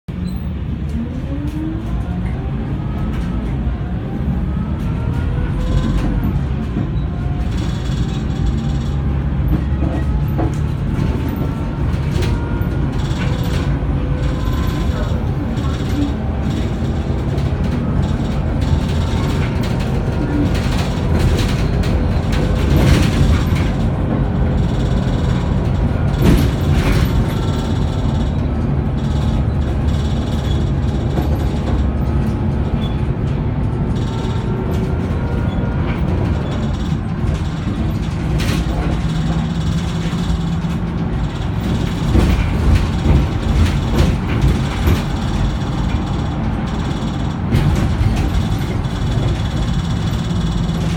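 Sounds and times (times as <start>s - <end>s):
bus engine and road rumble: 0.0s - 50.9s
bus body knocks and rattles: 0.1s - 50.9s.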